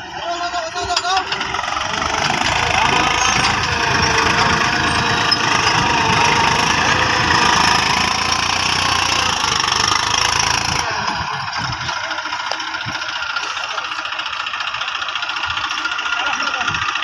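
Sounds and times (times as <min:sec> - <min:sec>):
rattling tractor diesel engine: 0:00.0 - 0:17.0.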